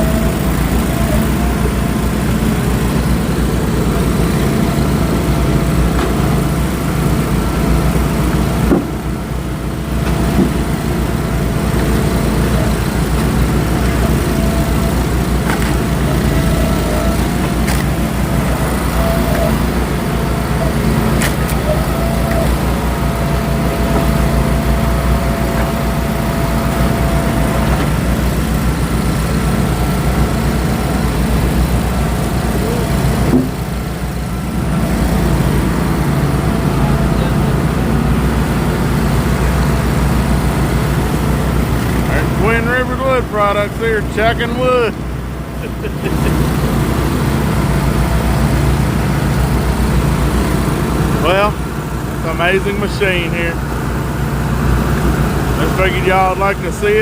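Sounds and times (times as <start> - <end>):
firewood processor engine whine: 0.0 - 57.0.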